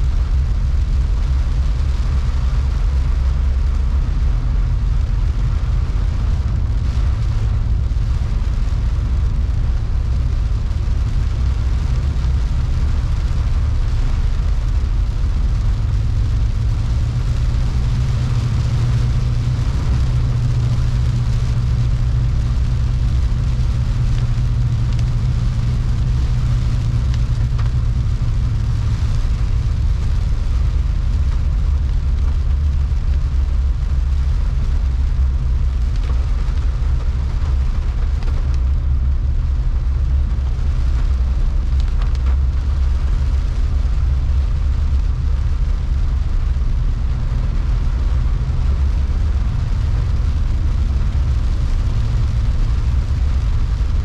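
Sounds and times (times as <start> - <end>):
windshield wipers sweeping: 0.0 - 53.8
car rumble on wet road: 0.0 - 54.0
heavy rain on windshield: 0.0 - 54.0.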